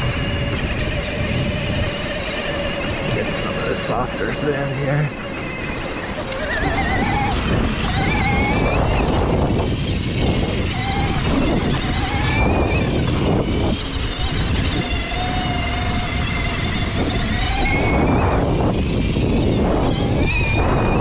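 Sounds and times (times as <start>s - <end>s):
electric motor whining: 0.0s - 21.0s
wind rumble on microphone: 0.0s - 21.0s.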